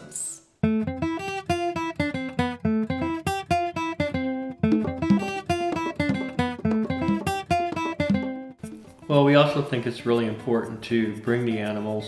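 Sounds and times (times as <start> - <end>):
acoustic guitar picking: 0.6 - 11.3.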